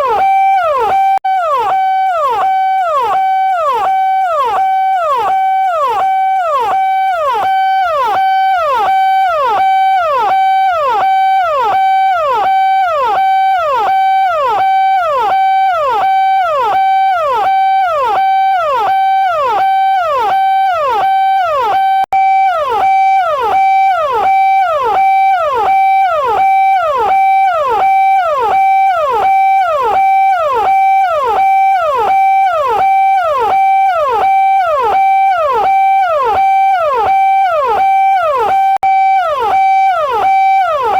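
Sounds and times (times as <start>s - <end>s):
police siren: 0.0s - 40.9s.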